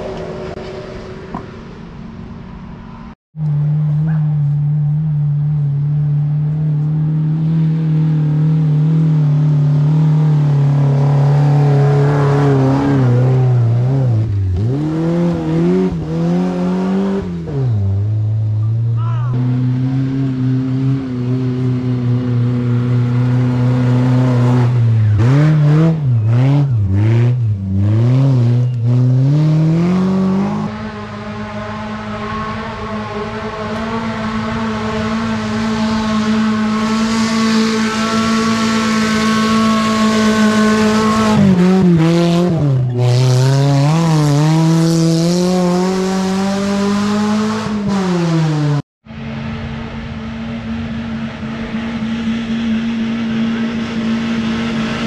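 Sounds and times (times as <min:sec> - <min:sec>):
engine revving under load: 0:03.0 - 0:55.0.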